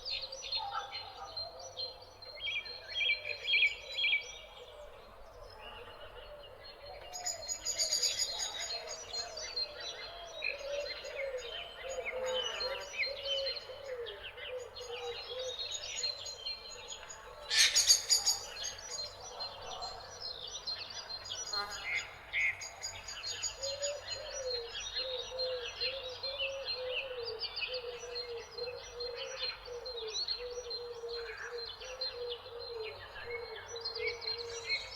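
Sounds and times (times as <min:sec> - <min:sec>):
birds chirping and trilling: 0:03.3 - 0:34.9.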